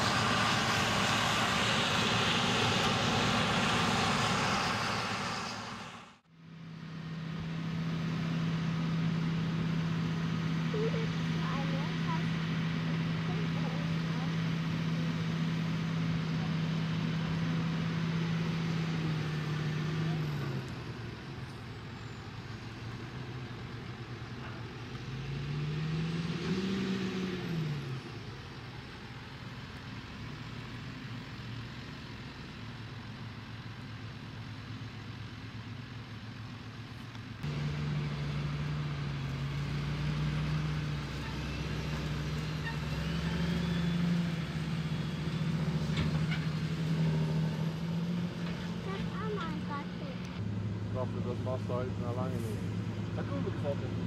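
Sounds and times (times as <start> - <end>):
engine revving: 0.0 - 6.3, 7.0 - 21.7, 22.6 - 29.6, 37.4 - 54.0
tractor diesel engines running: 0.0 - 54.0.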